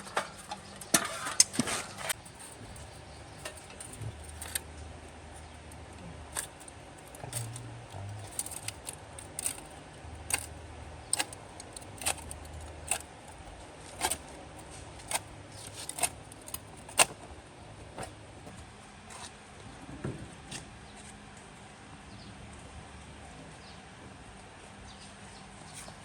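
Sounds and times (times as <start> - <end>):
faint steady background noise: 0.0 - 26.0.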